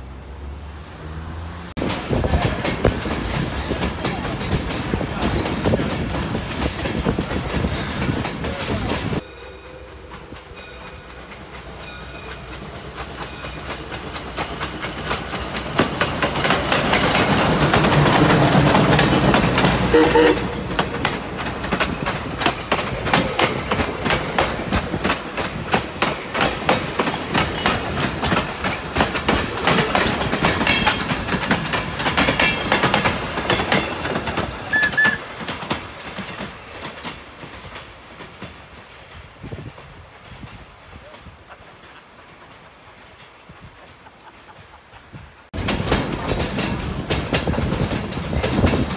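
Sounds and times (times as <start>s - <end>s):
steam train passing: 0.0s - 48.9s
wheels clacking over rail joints: 1.6s - 48.9s.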